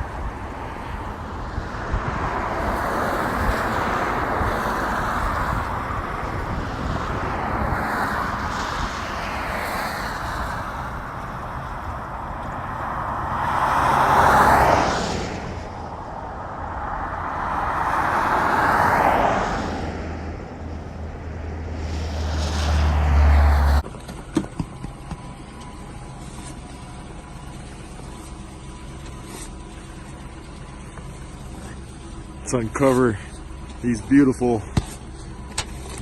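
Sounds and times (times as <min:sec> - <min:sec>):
traffic passing: 0:00.0 - 0:36.0.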